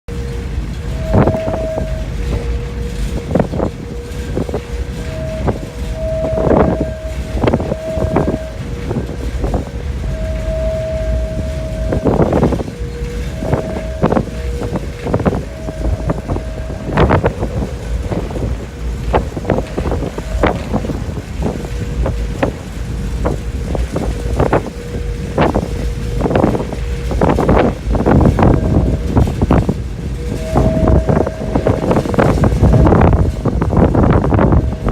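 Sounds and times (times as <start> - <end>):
constant low rumble: 0.0 - 34.9
wind gusts buffeting microphone: 0.1 - 34.9
wind tone on ship: 0.1 - 34.9.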